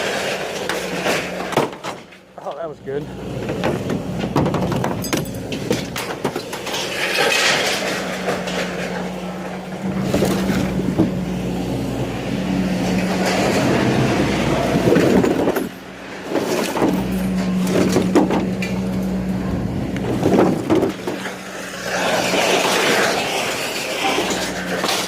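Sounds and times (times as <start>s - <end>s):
engine running: 0.0s - 25.0s
scrap metal clattering and banging: 0.0s - 25.0s.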